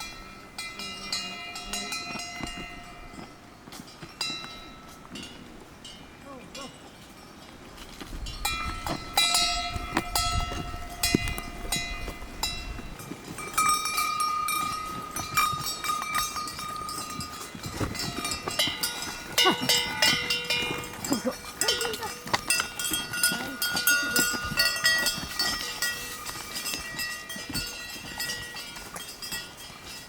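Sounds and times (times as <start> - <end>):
cowbells clanking: 0.0 - 30.0.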